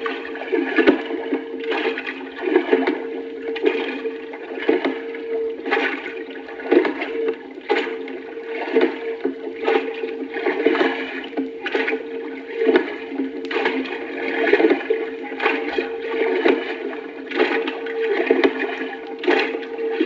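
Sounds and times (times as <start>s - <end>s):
rushing splashing water: 0.0s - 20.0s.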